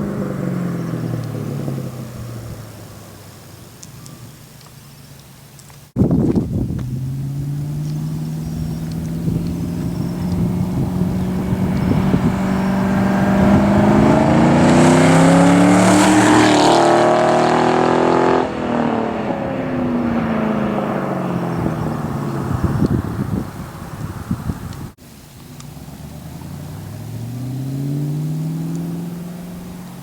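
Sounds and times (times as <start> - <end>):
car exhaust accelerating: 0.0 - 4.5, 5.9 - 30.0.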